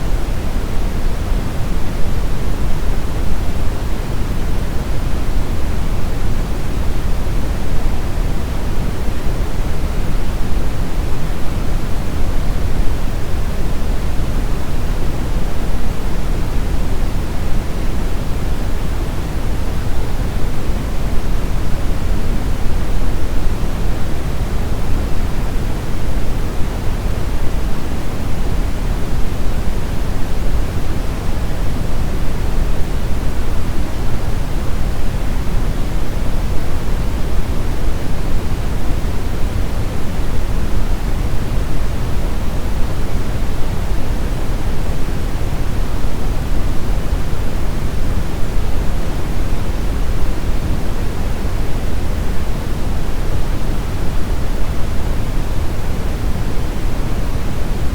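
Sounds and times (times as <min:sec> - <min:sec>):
brown noise rushing hiss: 0:00.0 - 0:57.9.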